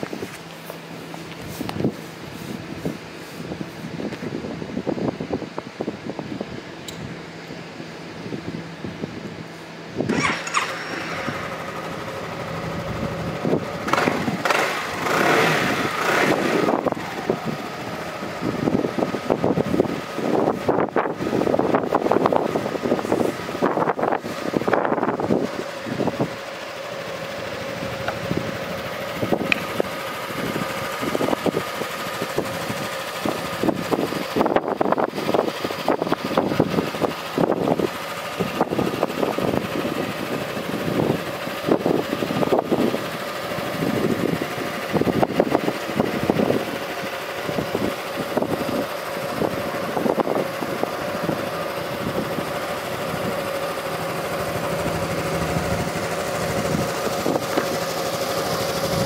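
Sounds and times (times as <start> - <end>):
scooter engine idling: 0.0 - 59.0
wind buffeting microphone: 1.3 - 7.2, 8.0 - 26.4, 27.4 - 59.0.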